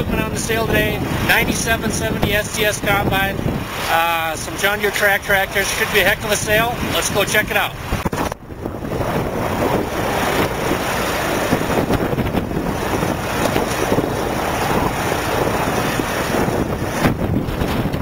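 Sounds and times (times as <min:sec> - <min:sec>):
blizzard wind on microphone: 0:00.0 - 0:18.0.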